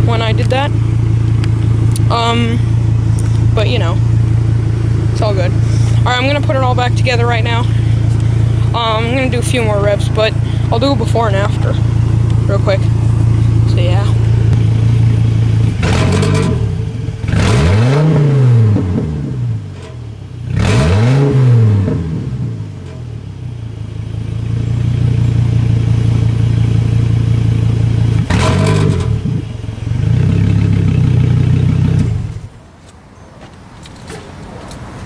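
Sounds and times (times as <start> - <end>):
exhaust cracks: 0.0 - 35.0
truck engine idling and revving: 0.0 - 35.0.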